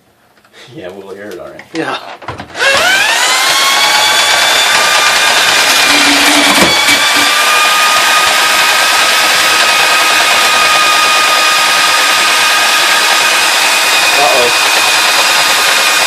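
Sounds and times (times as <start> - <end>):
drain auger motor whine: 2.6 - 16.0.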